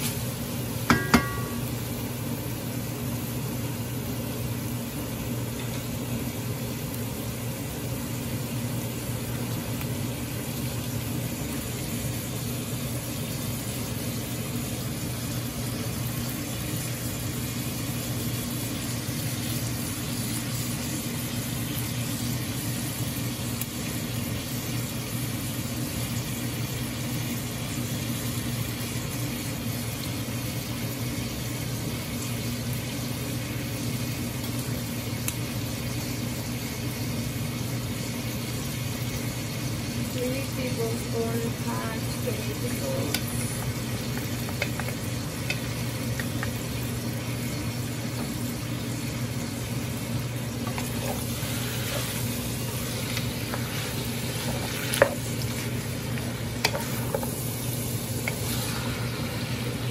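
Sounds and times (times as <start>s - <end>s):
meat and onions sizzling in a pot: 0.0s - 59.9s.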